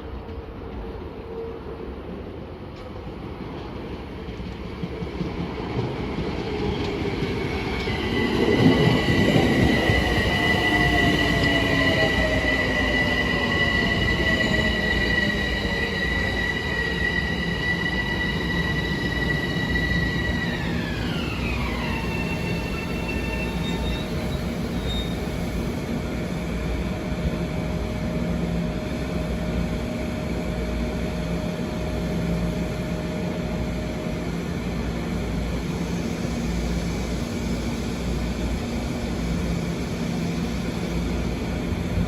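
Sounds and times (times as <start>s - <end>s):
train rumble: 0.0s - 42.0s
high-pitched train whine: 3.6s - 42.0s.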